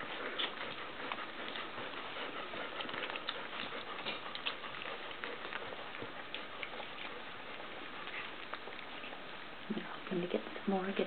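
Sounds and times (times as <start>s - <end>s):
puppies scuffling: 0.0s - 11.0s
puppies suckling clicks: 0.0s - 11.0s.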